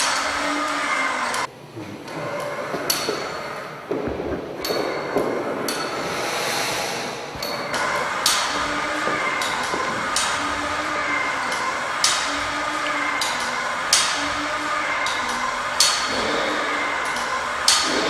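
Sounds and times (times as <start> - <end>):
mechanical whirr: 0.0 - 18.0.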